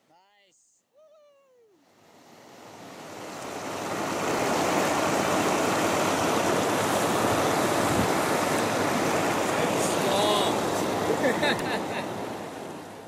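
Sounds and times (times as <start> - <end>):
river rapid rushing: 1.8 - 13.0.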